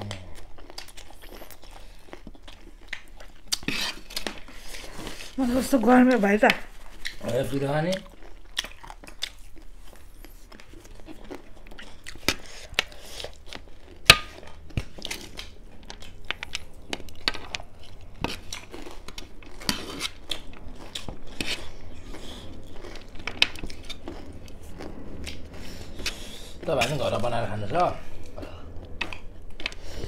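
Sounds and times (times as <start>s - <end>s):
crunchy chewing: 0.0s - 5.4s, 6.8s - 27.1s.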